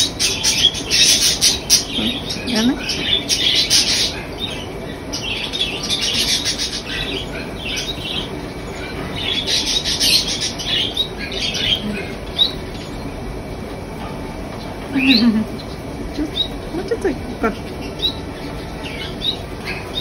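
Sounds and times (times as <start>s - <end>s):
bird chick chirping: 0.0s - 13.8s, 14.4s - 20.0s.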